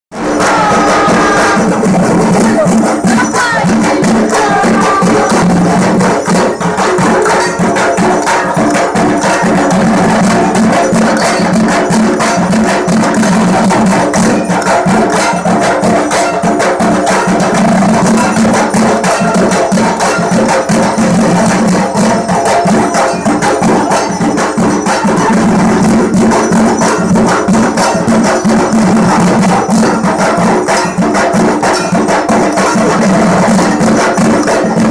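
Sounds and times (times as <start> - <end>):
barrel drums beaten fast: 0.1 - 34.9.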